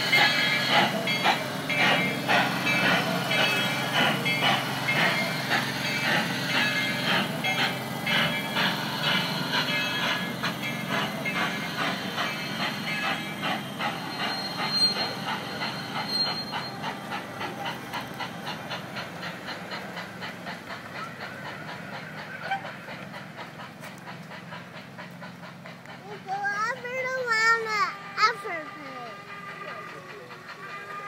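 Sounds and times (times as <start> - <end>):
miniature train clattering: 0.0 - 31.0
train rumble: 0.0 - 31.0.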